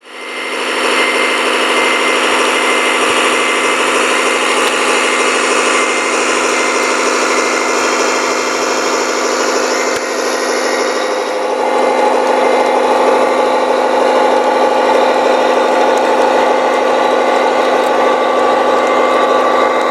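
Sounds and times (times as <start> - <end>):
small motor humming: 0.0 - 19.9.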